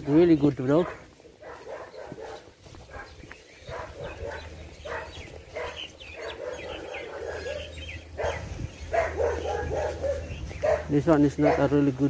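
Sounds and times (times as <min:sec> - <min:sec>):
dogs barking: 0:00.1 - 0:12.0.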